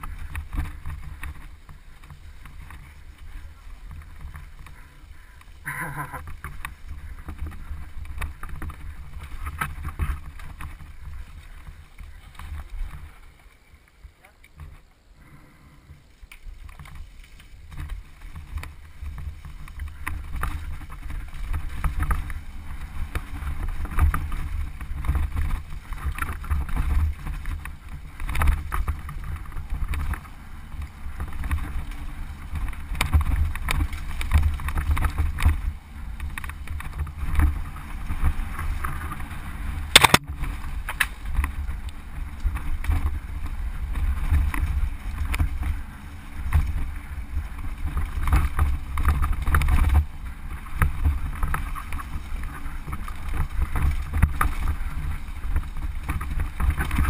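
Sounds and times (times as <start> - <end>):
bike rattling over stones: 0.0 - 57.0
wind rumbling on microphone: 0.0 - 57.0.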